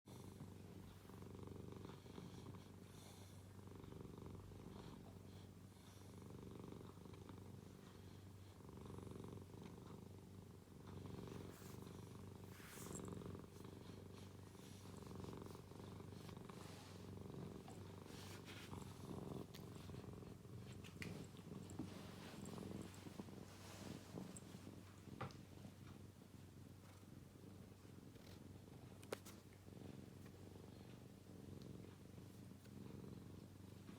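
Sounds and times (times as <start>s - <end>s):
cat purring: 0.1s - 33.9s
faint rustle: 6.0s - 33.9s.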